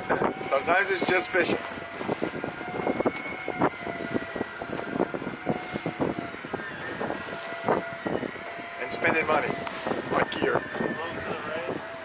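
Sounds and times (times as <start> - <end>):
outboard motors whining: 0.0 - 12.0.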